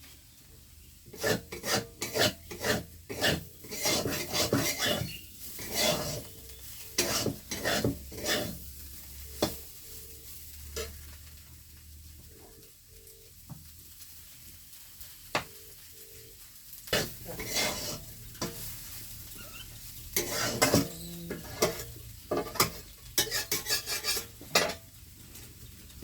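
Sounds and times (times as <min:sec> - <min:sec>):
utensil scraping cooking pan: 0:01.0 - 0:25.4.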